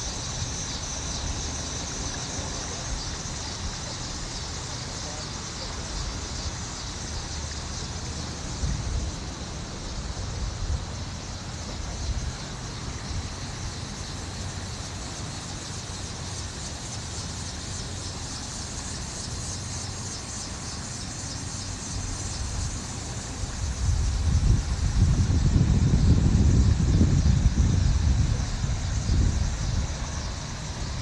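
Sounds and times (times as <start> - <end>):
wind buffeting microphone: 0.0 - 17.4, 21.7 - 31.0
high hiss: 0.0 - 31.0.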